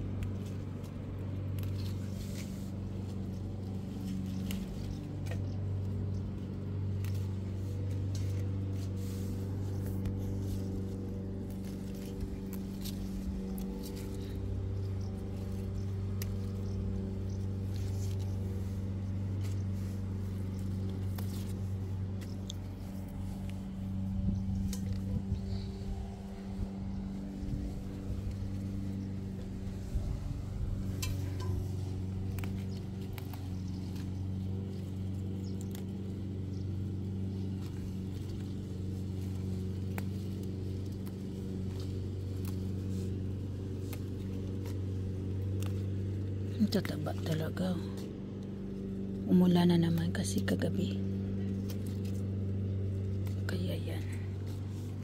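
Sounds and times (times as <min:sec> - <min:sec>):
leaves snapping and rustling: 0:00.0 - 0:55.0
low machine hum: 0:00.0 - 0:55.0.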